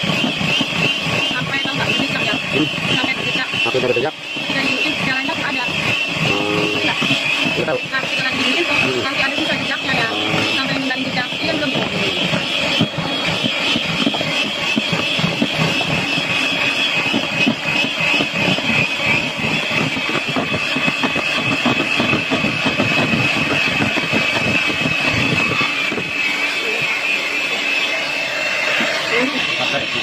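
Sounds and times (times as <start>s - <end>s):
electric hand mixer whisking: 0.0s - 30.0s.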